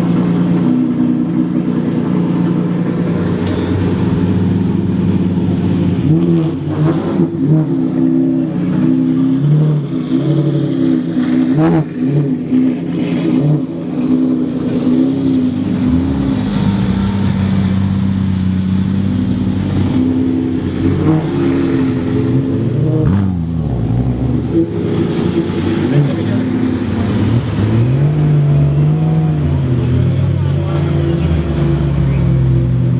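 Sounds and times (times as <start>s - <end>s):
car engine revving and idling: 0.0s - 32.9s.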